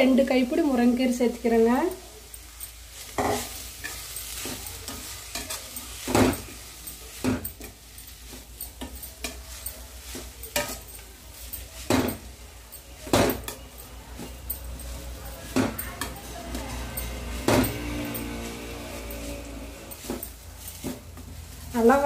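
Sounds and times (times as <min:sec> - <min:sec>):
faint sizzle: 0:00.0 - 0:22.0
spoon scraping and clinking pan: 0:01.8 - 0:21.7.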